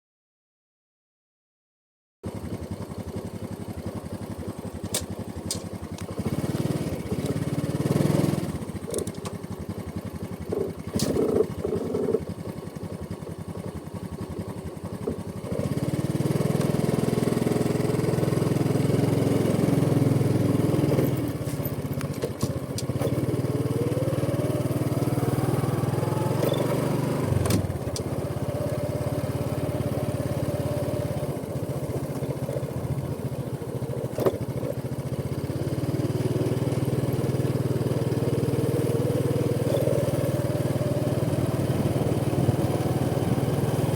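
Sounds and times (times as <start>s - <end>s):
motorcycle engine accelerating: 2.2s - 43.9s.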